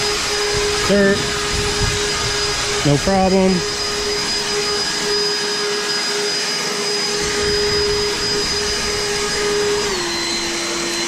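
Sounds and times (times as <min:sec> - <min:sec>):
leaf blower running: 0:00.0 - 0:11.0.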